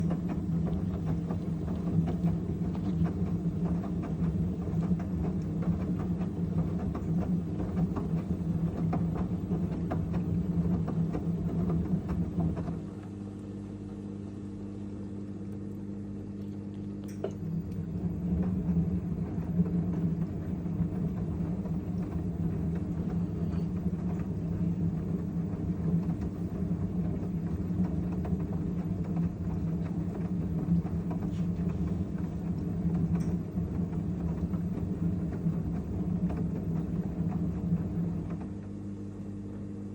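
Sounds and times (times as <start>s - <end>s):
washing machine drum rumbling: 0.0s - 13.2s, 17.1s - 38.8s.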